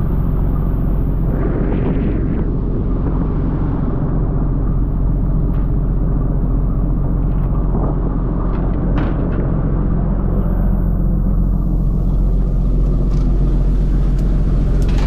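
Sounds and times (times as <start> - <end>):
boat engine droning: 0.0 - 15.0
water splashing along hull: 0.0 - 15.0.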